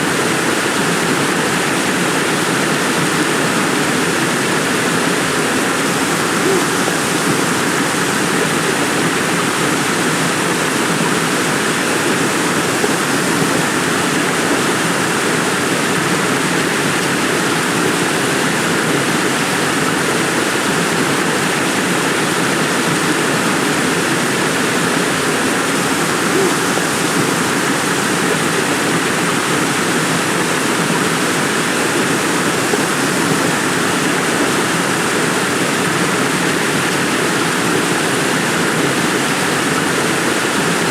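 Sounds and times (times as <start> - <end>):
heavy rain in forest: 0.0 - 40.9.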